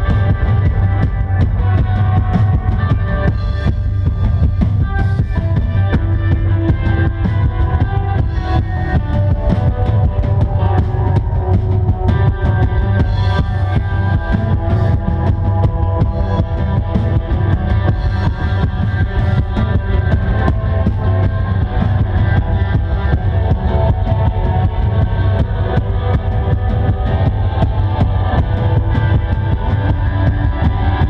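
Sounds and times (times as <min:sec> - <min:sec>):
busy drum kit: 0:00.0 - 0:31.0
rock band playing: 0:00.0 - 0:31.0.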